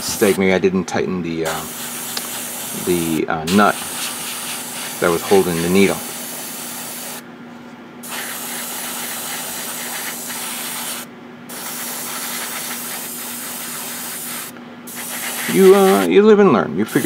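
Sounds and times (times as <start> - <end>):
airbrush spraying air hiss: 0.0 - 0.4, 1.4 - 7.2, 8.0 - 16.1
steady low hum: 0.0 - 17.0.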